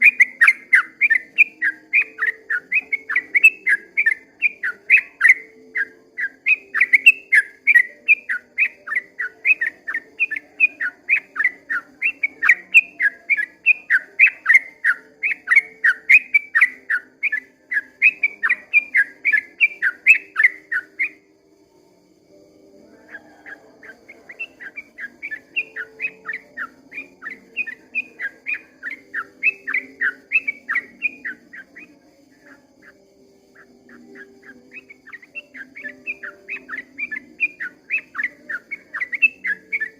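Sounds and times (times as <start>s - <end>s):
bird singing rapid chirping notes: 0.0s - 39.9s.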